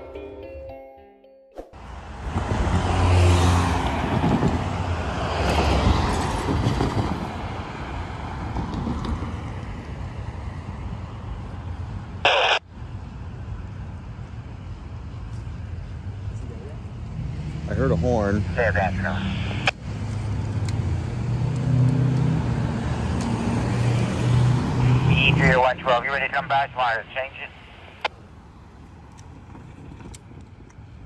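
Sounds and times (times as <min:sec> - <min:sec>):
truck passing: 0:01.7 - 0:12.2, 0:12.8 - 0:31.0
traffic rumble: 0:01.8 - 0:31.0.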